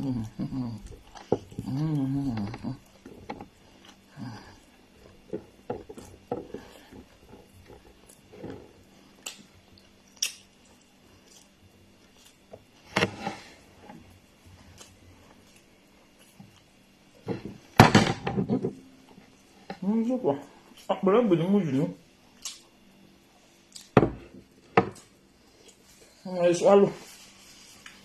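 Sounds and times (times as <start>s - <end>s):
soft chewing and mouth sounds: 0.0s - 12.9s, 13.5s - 17.4s, 19.0s - 21.0s, 22.0s - 26.2s, 27.0s - 28.0s.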